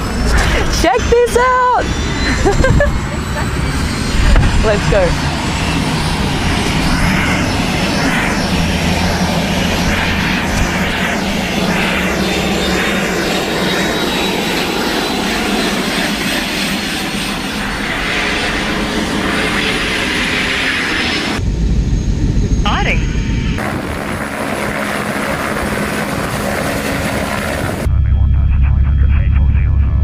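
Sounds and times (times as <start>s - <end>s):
engine drone with high whine: 0.0s - 30.0s.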